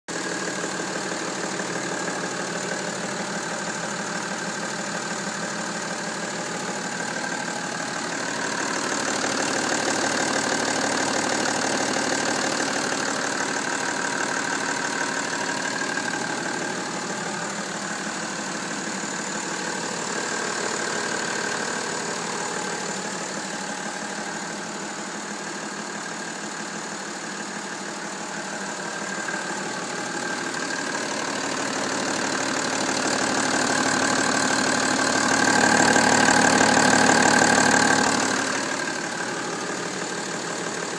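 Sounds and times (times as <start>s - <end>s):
diesel engine idling: 0.1s - 40.9s.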